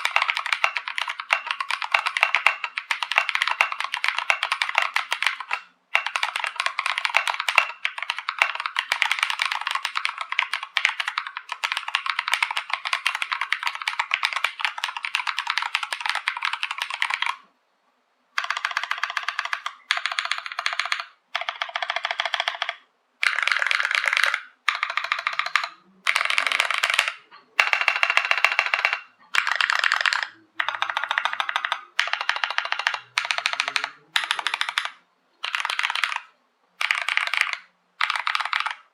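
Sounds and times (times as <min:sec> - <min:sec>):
mechanical keyboard typing: 0:00.0 - 0:17.4, 0:18.4 - 0:38.9.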